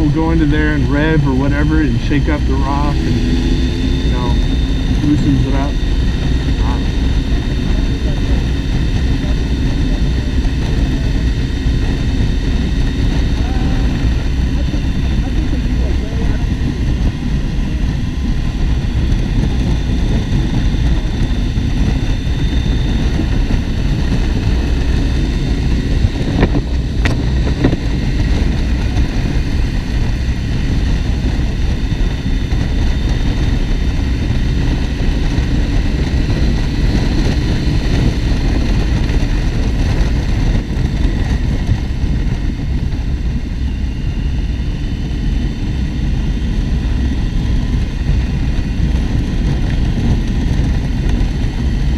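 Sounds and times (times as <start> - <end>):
motorcycle engine drone: 0.0 - 51.9
wind noise on microphone: 0.0 - 51.9.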